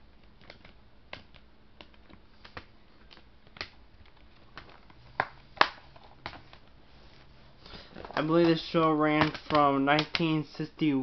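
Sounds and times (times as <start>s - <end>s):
plastic case clacks: 0.3s - 6.6s, 7.8s - 10.3s.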